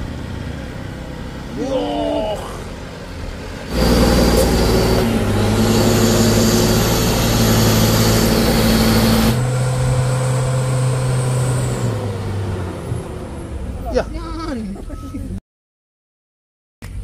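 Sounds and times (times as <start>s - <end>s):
heavy truck engine straining: 0.0s - 15.4s.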